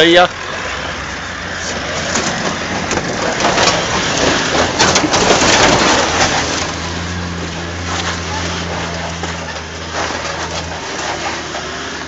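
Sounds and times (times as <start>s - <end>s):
engine humming at low revs: 0.0s - 12.0s
crunching and crackling: 1.4s - 12.0s.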